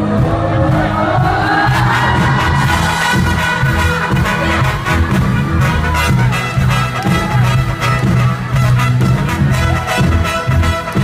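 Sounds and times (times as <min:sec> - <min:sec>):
bass line: 0:00.0 - 0:11.0
live band playing: 0:00.0 - 0:11.0
drum hits: 0:00.3 - 0:09.4.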